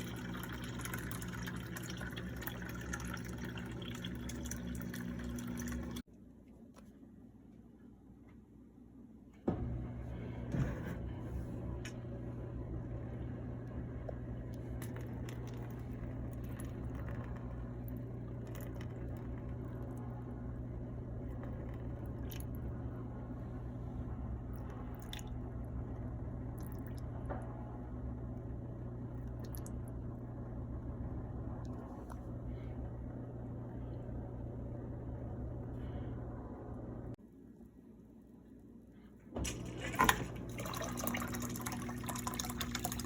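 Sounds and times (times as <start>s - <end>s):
dishwasher pump motor humming: 0.0s - 6.0s, 9.5s - 37.2s, 39.3s - 43.0s.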